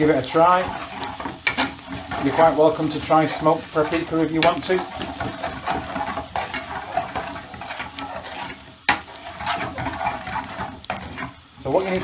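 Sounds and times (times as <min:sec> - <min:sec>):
onions sizzling in oil: 0:00.0 - 0:12.0
utensil stirring and scraping pan: 0:00.0 - 0:12.0
utensil knocking against pan: 0:00.5 - 0:11.0.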